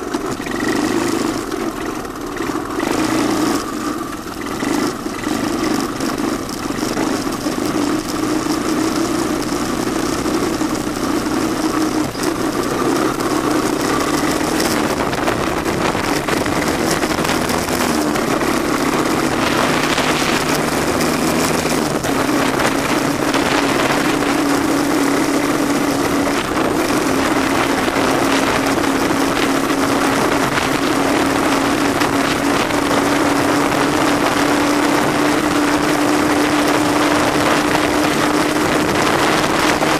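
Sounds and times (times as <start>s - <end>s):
motorbike engine running: 0.0s - 39.9s
rushing noise: 0.0s - 39.9s.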